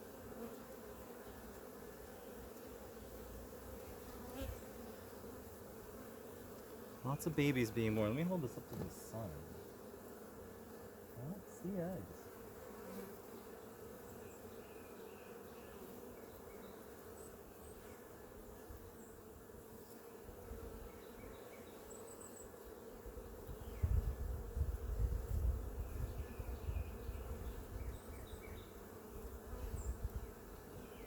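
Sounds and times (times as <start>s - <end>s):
bees humming: 0.0s - 31.0s.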